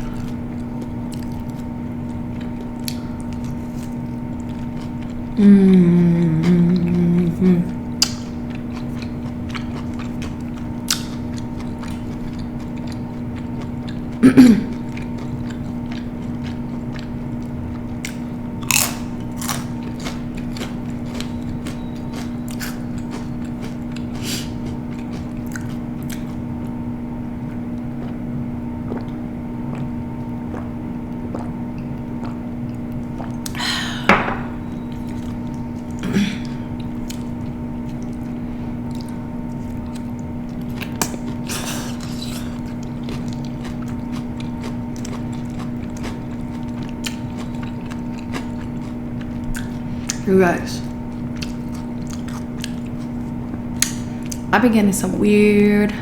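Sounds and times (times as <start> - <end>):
chewing and crunching food: 0.0 - 56.0
low hum: 0.0 - 56.0.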